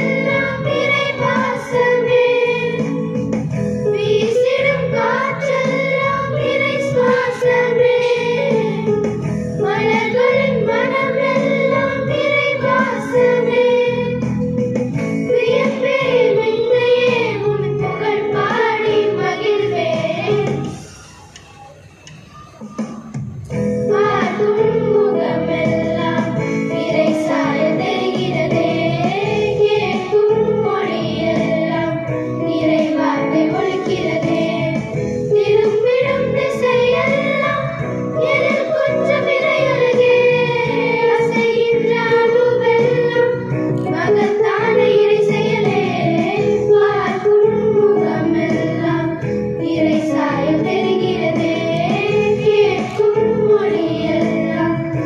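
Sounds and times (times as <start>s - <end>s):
girls singing in unison: 0.0s - 2.8s, 3.9s - 8.7s, 9.6s - 14.2s, 15.3s - 20.7s, 23.9s - 55.0s.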